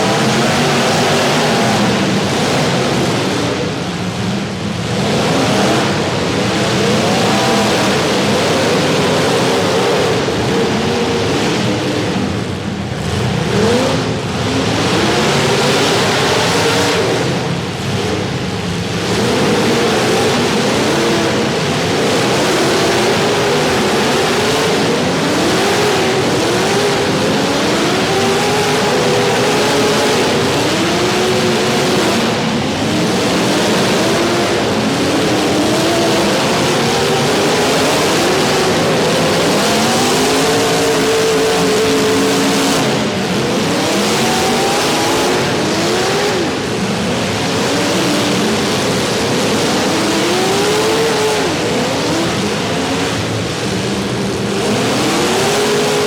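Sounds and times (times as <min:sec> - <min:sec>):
car engines revving: 0:00.0 - 0:56.0
loud steady rushing noise: 0:00.0 - 0:56.0.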